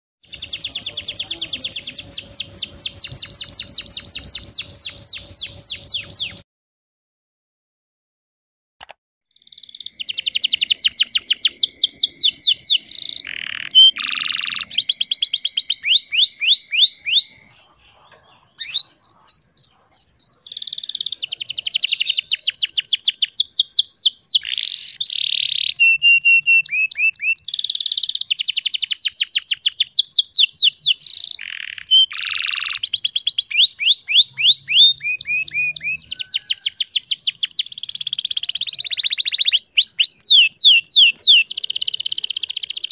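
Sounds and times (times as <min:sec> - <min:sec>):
canary singing trills: 0:00.2 - 0:06.4, 0:09.3 - 0:42.9.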